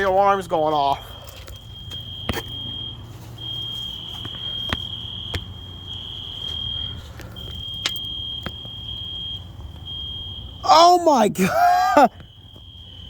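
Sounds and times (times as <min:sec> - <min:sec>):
fire alarm high-pitched tone: 0:00.0 - 0:11.3, 0:11.9 - 0:13.0.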